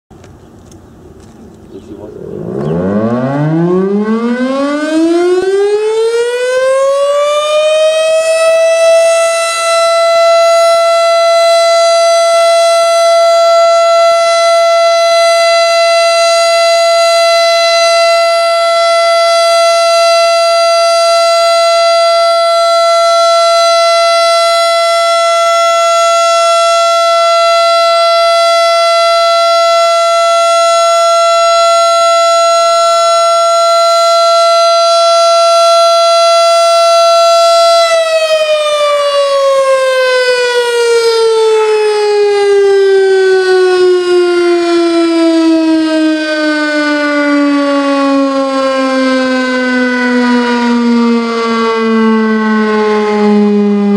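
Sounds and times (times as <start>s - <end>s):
tornado siren winding up: 2.0s - 53.9s.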